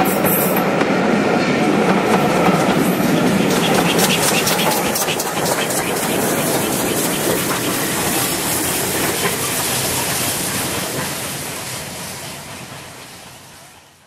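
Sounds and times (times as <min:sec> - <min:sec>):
steam train running: 0:00.0 - 0:14.0
steam hissing: 0:02.0 - 0:14.0.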